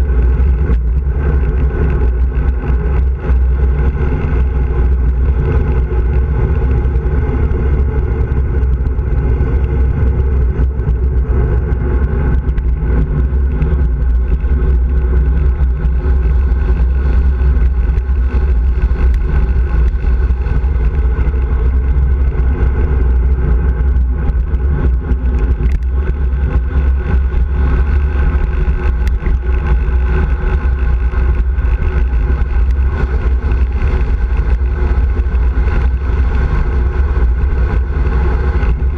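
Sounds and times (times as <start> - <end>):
tyres rolling on asphalt: 0.0 - 38.9
wind buffeting microphone: 0.0 - 38.9.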